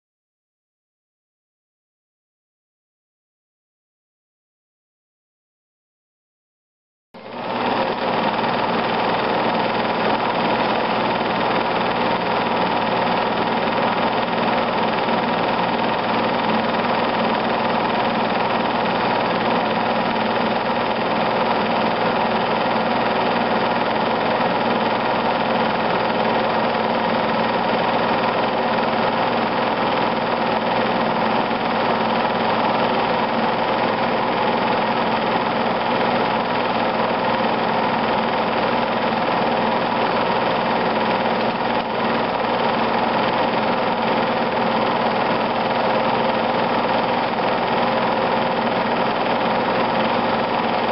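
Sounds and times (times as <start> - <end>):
film projector motor hum: 7.2 - 50.9.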